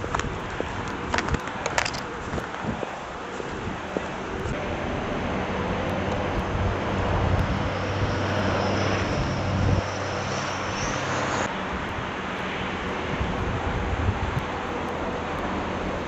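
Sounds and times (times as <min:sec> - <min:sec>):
engine drone: 0:00.0 - 0:16.0
outdoor noise: 0:00.0 - 0:16.0.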